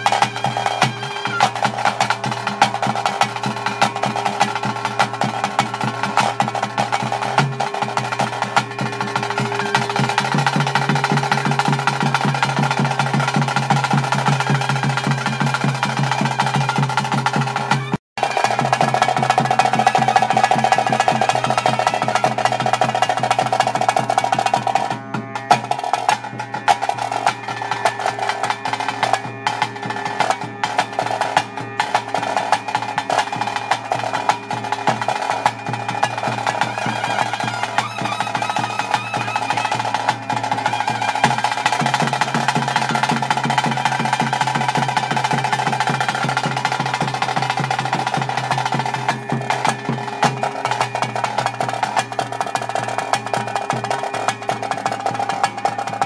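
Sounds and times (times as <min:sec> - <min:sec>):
fast drum roll: 0:00.0 - 0:56.0
pitched instrument holding long notes: 0:00.0 - 0:56.0.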